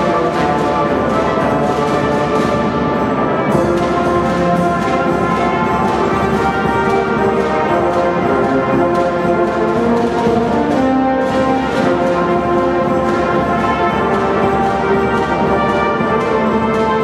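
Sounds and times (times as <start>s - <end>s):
brass instruments melody: 0.0s - 17.0s
steady drum beat: 0.0s - 17.0s.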